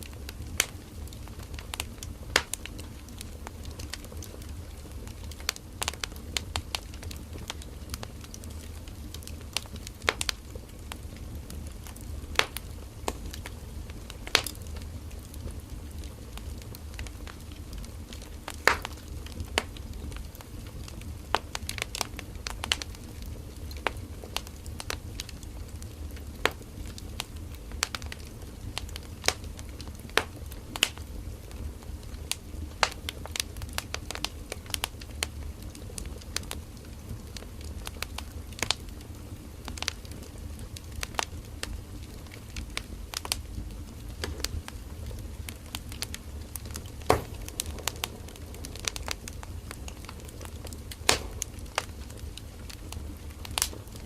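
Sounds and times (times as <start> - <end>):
campfire crackles and pops: 0.0 - 54.0
low rumble of flames: 0.0 - 54.0.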